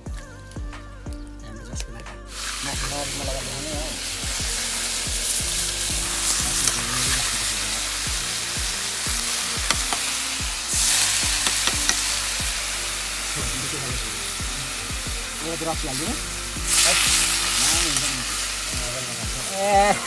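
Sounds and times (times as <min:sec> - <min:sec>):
music with a steady beat: 0:00.0 - 0:20.0
food frying in hot oil: 0:02.3 - 0:20.0.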